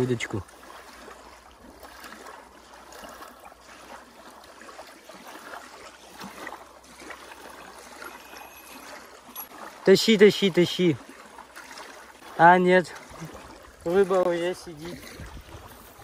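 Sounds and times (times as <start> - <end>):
small waves lapping on shore: 0.0 - 16.0.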